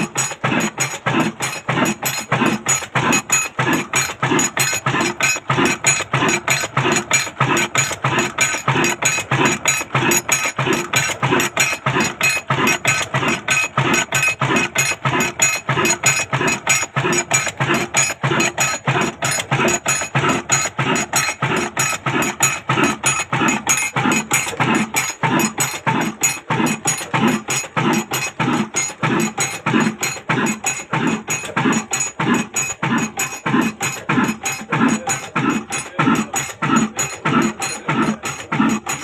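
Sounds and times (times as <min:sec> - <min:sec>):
stationary diesel engine running: 0:00.0 - 0:39.0.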